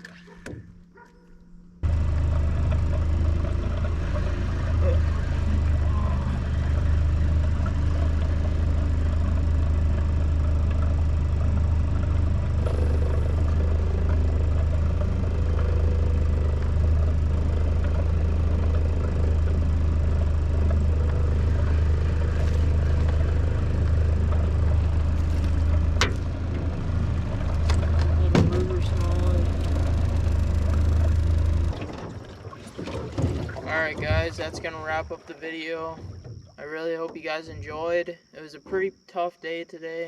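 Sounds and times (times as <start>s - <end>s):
motor droning: 0.0s - 37.9s.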